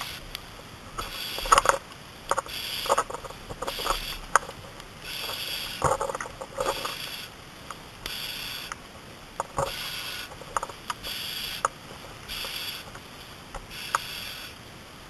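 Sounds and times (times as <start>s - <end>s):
breathing regulator hiss: 0.0s - 8.8s, 9.5s - 14.6s.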